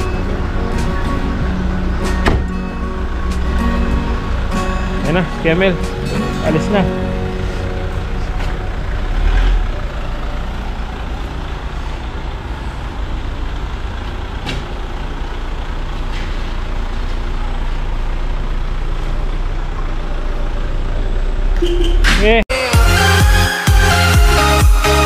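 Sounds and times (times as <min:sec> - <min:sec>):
car engine low rumble: 0:00.0 - 0:22.5.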